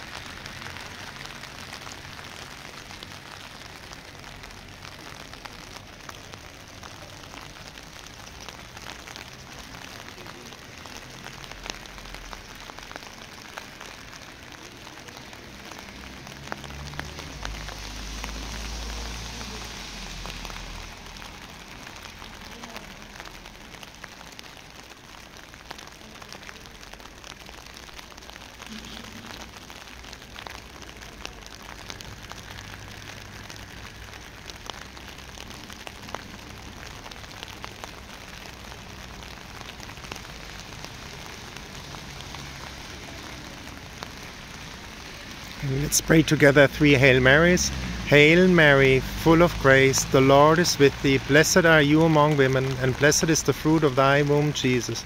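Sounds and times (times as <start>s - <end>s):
raindrop ticks: 0.0s - 55.0s
steady rain hiss: 0.0s - 55.0s.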